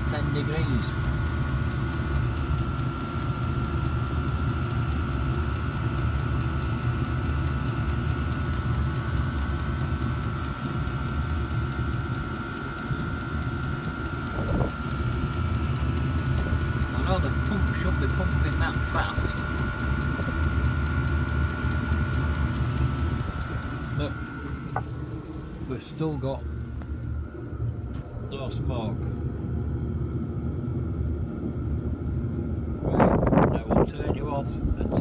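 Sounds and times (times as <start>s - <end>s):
fuel pump clicking: 0.0s - 29.2s
diesel air heater rumble and whine: 0.0s - 35.0s.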